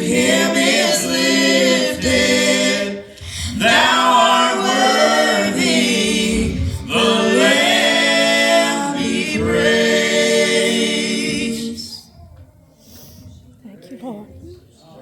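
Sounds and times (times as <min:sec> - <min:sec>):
gospel group singing in harmony: 0:00.0 - 0:12.2.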